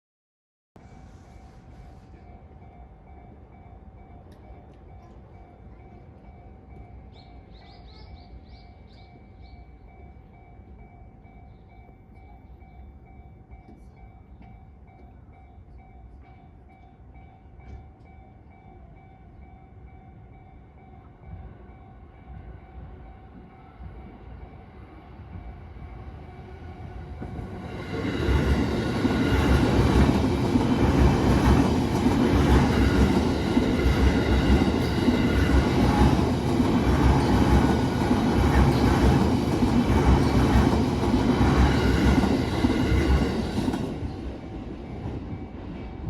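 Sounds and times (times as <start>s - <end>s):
level-crossing warning bell: 0.8s - 44.1s
train rumbling on tracks: 0.8s - 46.0s.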